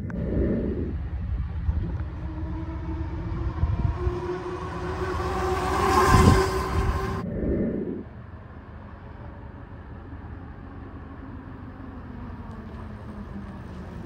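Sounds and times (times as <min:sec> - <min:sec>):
electric bike rumble: 0:00.0 - 0:14.0.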